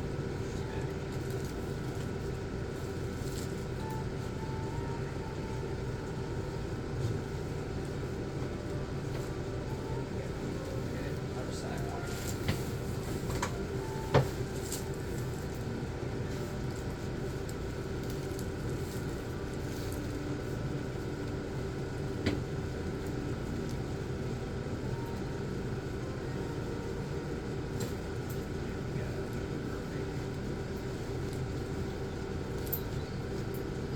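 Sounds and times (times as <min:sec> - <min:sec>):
room hum: 0:00.0 - 0:33.9.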